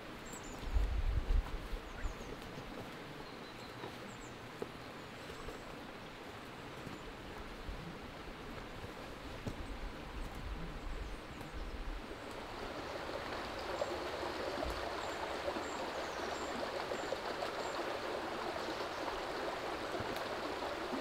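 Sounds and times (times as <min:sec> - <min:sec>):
stream running over rocks: 0:00.0 - 0:21.0.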